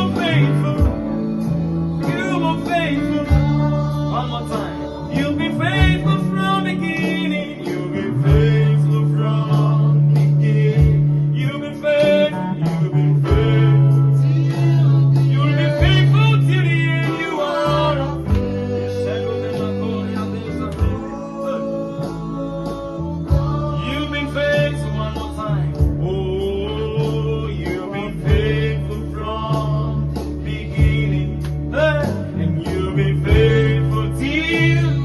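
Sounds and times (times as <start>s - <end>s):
guitar accompaniment: 0.0s - 35.0s
person singing: 0.0s - 35.0s
sustained bass notes: 0.0s - 35.0s.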